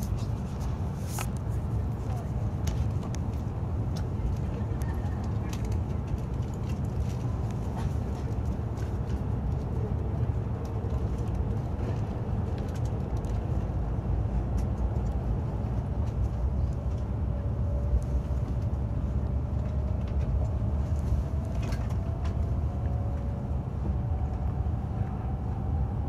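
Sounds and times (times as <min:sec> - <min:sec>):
train cabin low rumble: 0:00.0 - 0:26.0.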